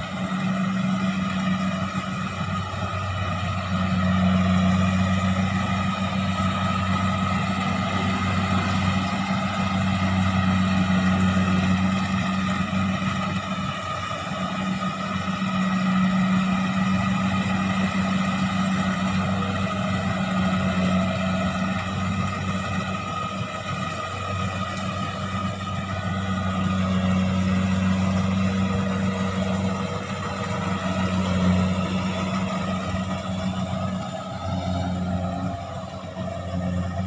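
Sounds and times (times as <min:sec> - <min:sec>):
diesel engine humming: 0:00.0 - 0:37.0.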